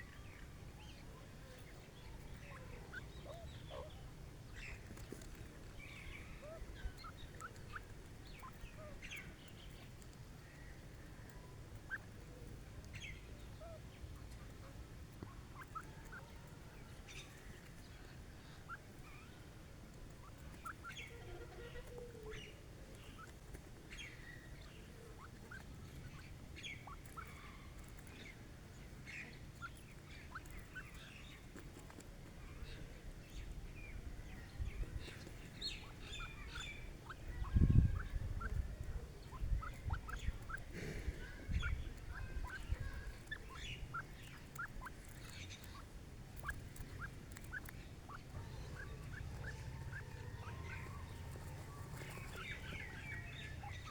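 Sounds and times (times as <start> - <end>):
partridges chirping: 0.0 - 11.0, 15.2 - 16.4, 17.1 - 19.5, 20.1 - 31.5, 33.2 - 53.9.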